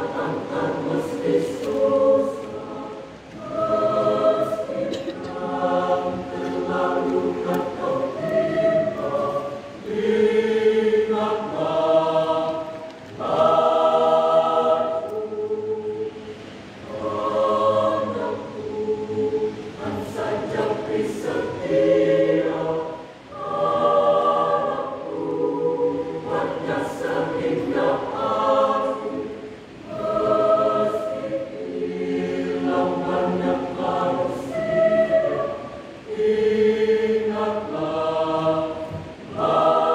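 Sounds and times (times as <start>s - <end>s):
mixed choir singing: 0.0s - 39.9s.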